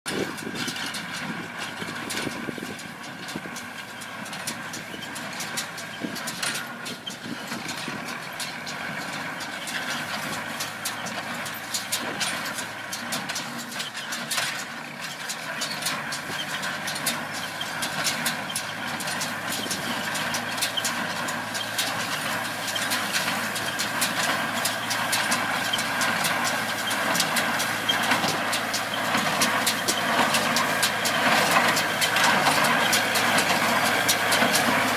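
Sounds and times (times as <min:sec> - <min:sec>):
tractor engine running: 0:00.0 - 0:34.9
clattering clicks and knocks: 0:00.1 - 0:34.9.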